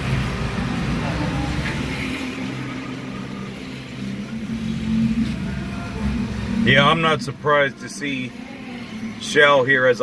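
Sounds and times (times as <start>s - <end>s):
car engine rumble inside cabin: 0.0s - 10.0s.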